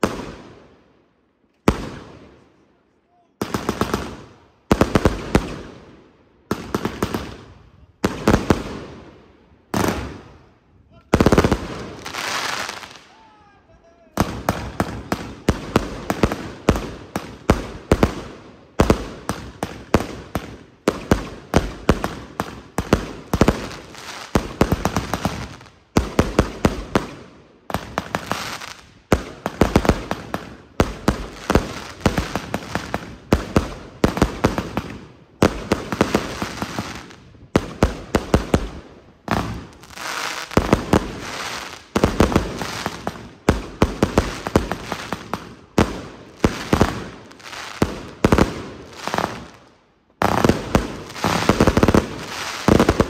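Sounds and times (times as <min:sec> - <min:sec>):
fireworks launches and bursts: 0:00.0 - 0:00.8, 0:01.6 - 0:02.6, 0:03.4 - 0:13.4, 0:14.0 - 0:53.0.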